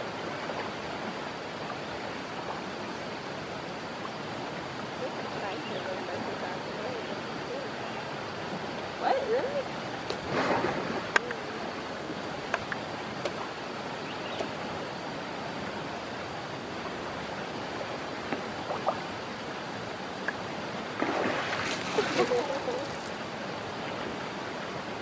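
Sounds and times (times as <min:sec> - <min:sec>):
river flowing: 0:00.0 - 0:25.0.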